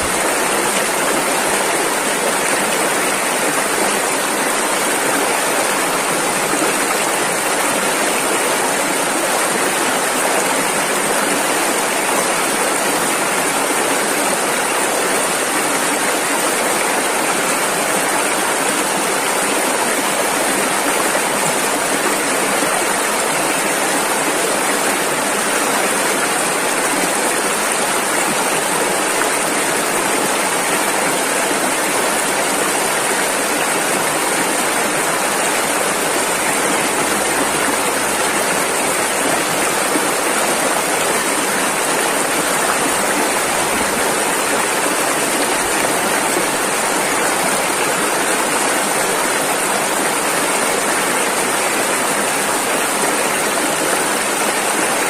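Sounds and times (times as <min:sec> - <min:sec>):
river water over rapids: 0:00.0 - 0:55.0.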